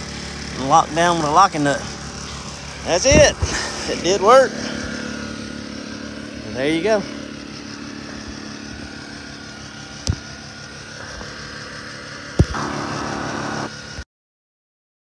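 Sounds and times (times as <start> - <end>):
generator running: 0.0 - 14.0.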